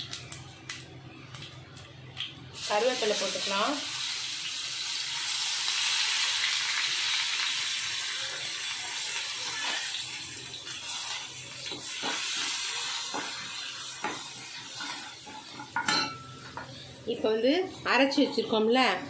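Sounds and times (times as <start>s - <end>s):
leaves and chillies sizzling in oil: 0.0s - 19.0s.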